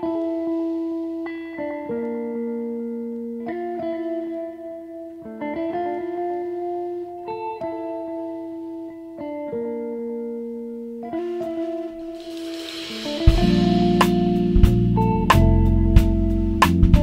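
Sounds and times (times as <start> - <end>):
plucked guitar chords: 0.0 - 17.0.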